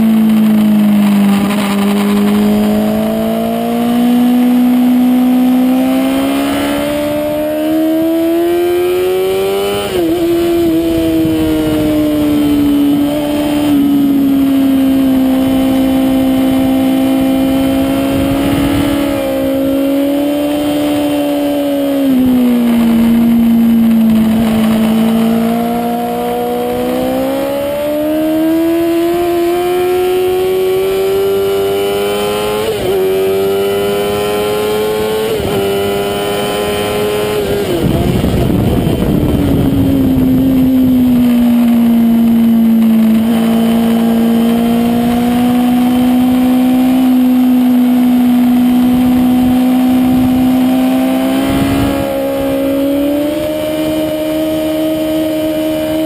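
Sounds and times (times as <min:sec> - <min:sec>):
motorcycle engine revving high: 0:00.0 - 0:56.0
wind noise on microphone: 0:00.0 - 0:56.0.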